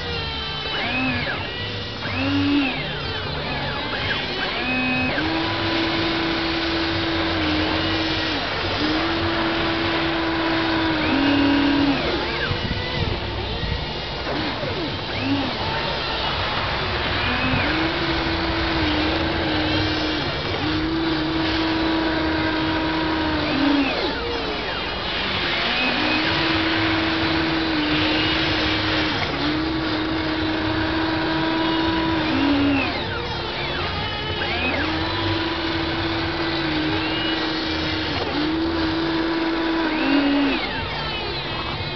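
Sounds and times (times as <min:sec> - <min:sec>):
toy excavator motors whining: 0:00.0 - 0:41.9.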